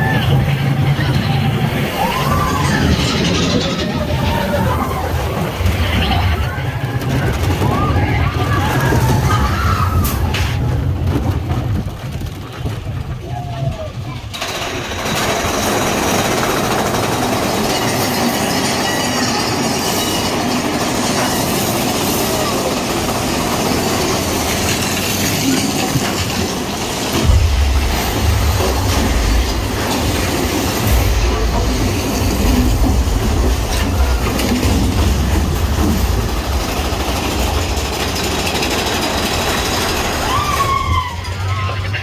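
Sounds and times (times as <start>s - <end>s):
deep rumble: 0.0s - 15.6s, 23.0s - 42.0s
roller coaster cars rattling: 0.0s - 42.0s.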